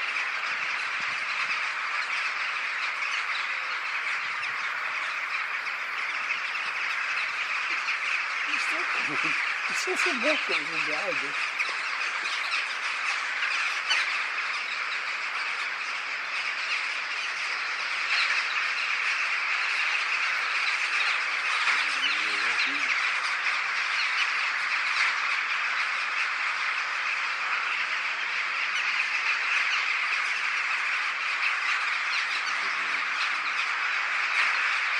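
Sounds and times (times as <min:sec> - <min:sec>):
flock of birds calling: 0:00.0 - 0:34.9.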